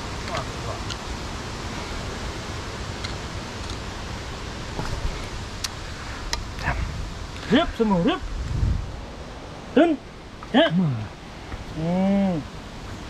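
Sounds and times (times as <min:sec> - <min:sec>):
rustling hiss: 0:00.0 - 0:13.0.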